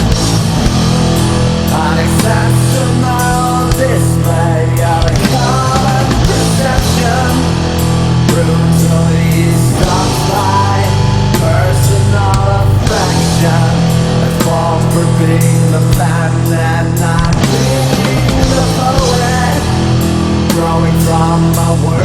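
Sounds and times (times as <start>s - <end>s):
bass guitar low notes: 0.0s - 22.0s
drums hitting: 0.0s - 22.0s
heavy guitars: 0.0s - 22.0s.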